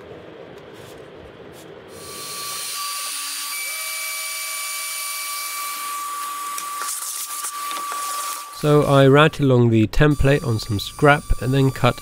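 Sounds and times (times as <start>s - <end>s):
router high-pitched whine: 1.9s - 12.0s.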